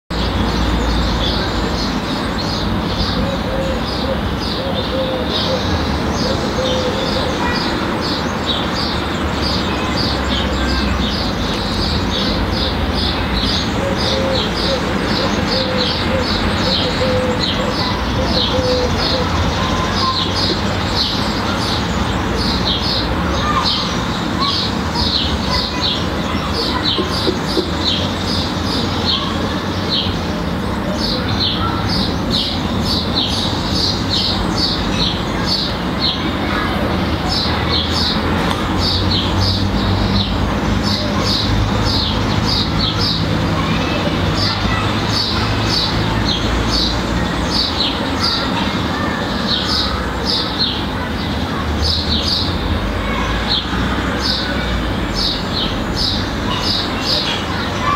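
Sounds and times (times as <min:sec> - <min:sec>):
small birds chirping: 0:00.1 - 0:57.9.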